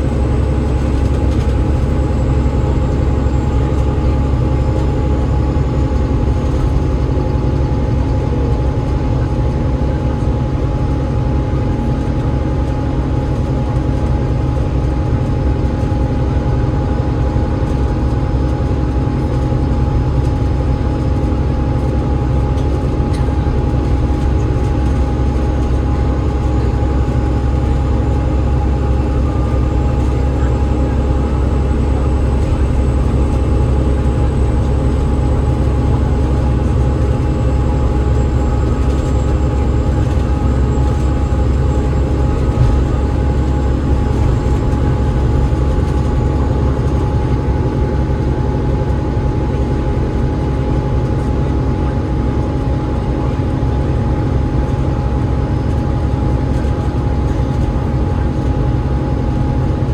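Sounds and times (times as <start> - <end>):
bus engine drone: 0.0 - 59.9.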